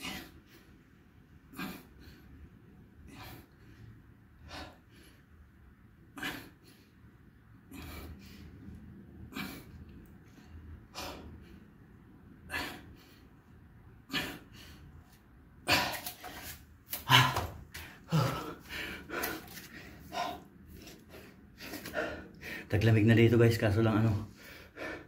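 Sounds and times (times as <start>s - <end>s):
man breathing forcefully: 0.0s - 5.5s, 6.1s - 22.7s, 24.3s - 25.0s.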